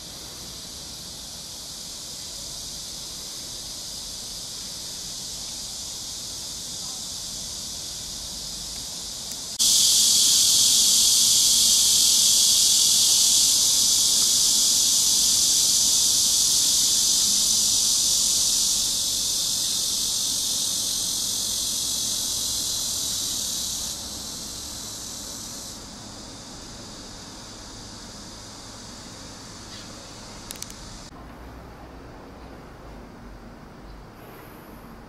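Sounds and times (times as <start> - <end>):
cicadas buzzing: 0.0 - 31.2.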